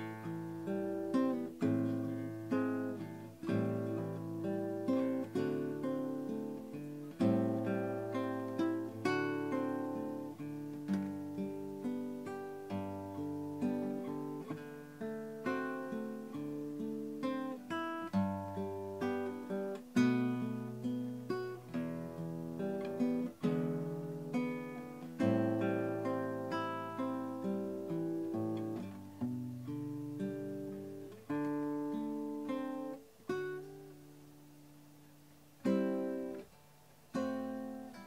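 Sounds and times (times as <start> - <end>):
plucked acoustic guitar: 0.0 - 38.0.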